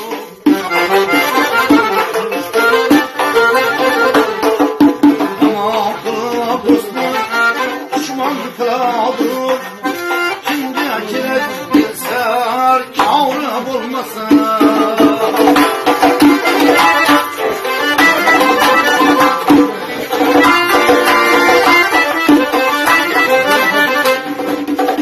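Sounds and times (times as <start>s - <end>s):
plucked lute solo: 0.0s - 25.0s.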